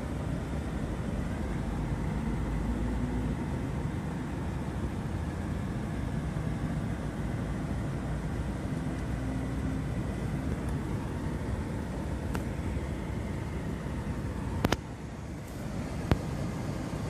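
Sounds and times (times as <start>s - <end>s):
engine idling low rumble: 0.0s - 17.0s.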